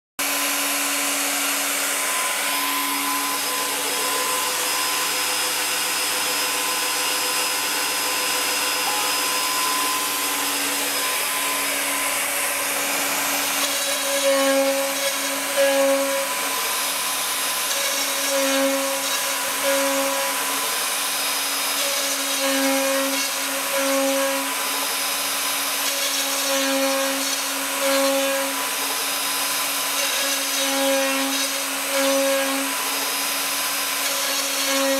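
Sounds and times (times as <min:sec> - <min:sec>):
router hiss and whine: 0:00.2 - 0:34.9.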